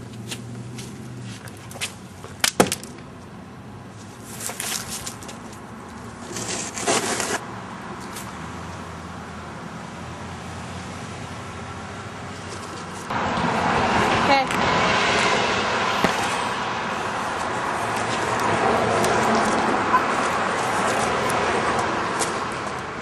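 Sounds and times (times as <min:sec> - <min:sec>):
road traffic going by: 0:00.0 - 0:23.0.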